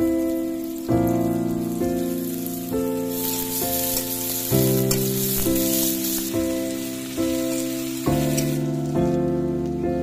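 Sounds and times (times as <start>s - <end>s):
onions sizzling in hot oil: 0.0s - 9.8s
background music: 0.0s - 10.0s.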